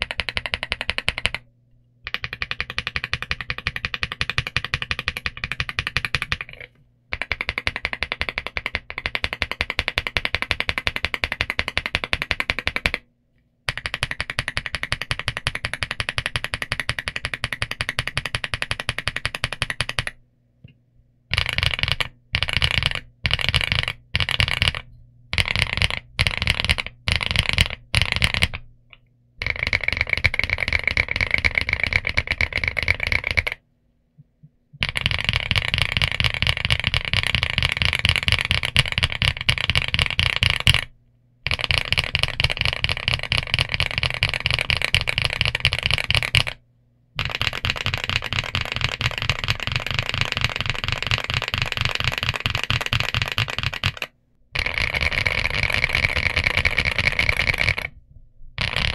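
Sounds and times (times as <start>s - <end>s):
mechanical keyboard typing: 0.0s - 13.1s, 13.7s - 20.2s, 21.3s - 28.7s, 29.4s - 33.6s, 34.8s - 46.6s, 47.2s - 58.0s, 58.6s - 58.9s.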